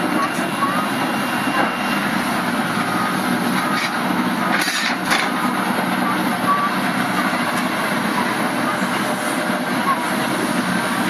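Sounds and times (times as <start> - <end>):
excavator engine: 0.0 - 11.0.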